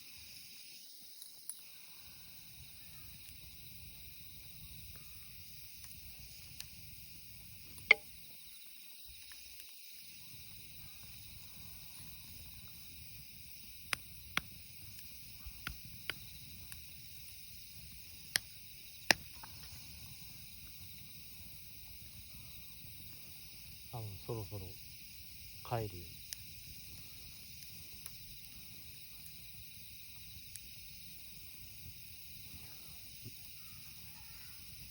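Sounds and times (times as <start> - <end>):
faint hiss: 0.0 - 34.9
campfire crackling and popping: 0.2 - 34.9.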